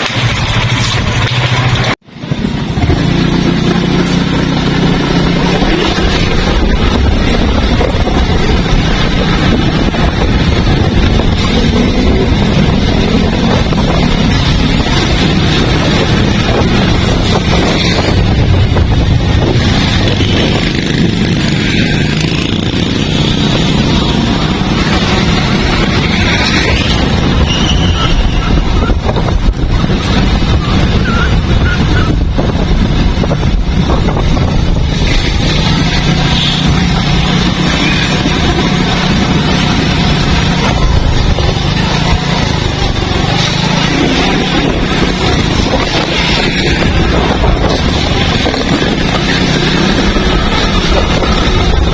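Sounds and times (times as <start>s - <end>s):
heavy rain: 0.0s - 51.9s
wind buffeting microphone: 0.0s - 51.9s.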